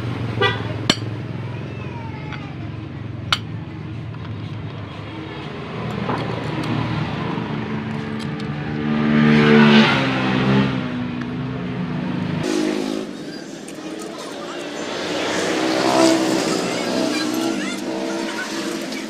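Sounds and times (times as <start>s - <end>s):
vehicle engine running: 0.0s - 9.3s, 10.0s - 19.0s.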